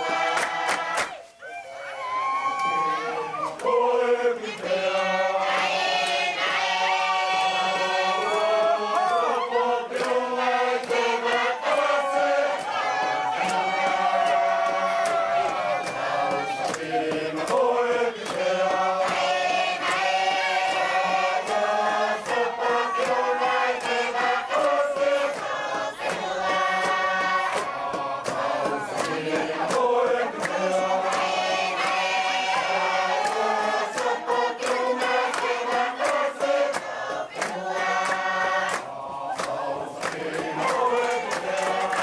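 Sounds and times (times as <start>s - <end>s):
group singing: 0.0s - 42.0s.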